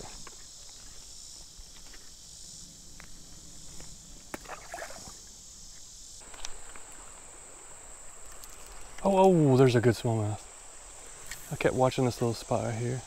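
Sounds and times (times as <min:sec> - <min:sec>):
insects singing: 0:00.0 - 0:13.0.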